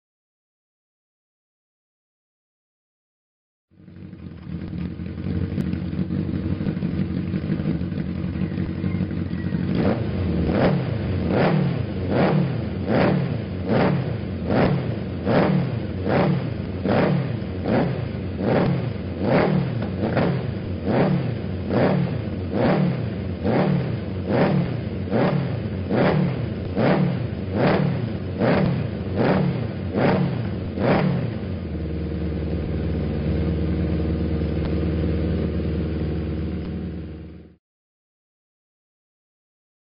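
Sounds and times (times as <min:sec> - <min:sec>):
motorcycle engine revving: 0:03.7 - 0:37.6.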